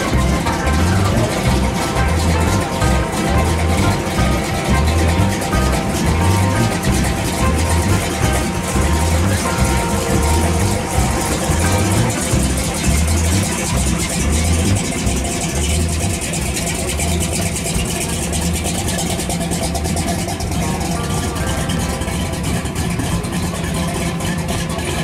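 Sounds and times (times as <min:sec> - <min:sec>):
engine idling with loping beat: 0:00.0 - 0:25.0.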